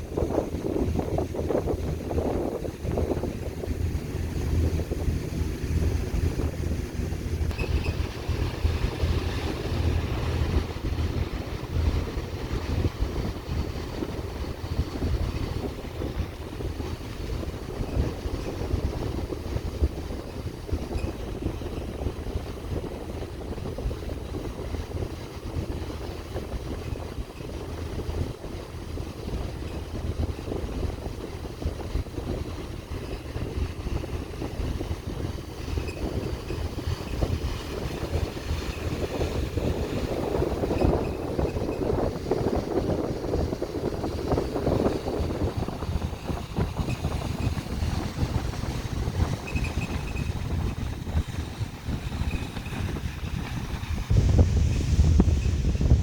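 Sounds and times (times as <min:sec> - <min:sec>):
boat engine rumble: 0:00.0 - 0:56.0
wind buffeting microphone: 0:00.0 - 0:56.0.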